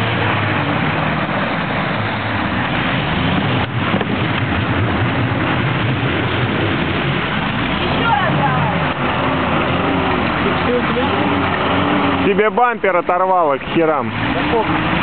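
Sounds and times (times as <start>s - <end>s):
car engine revving: 0.0s - 15.0s
water splashing: 0.0s - 15.0s.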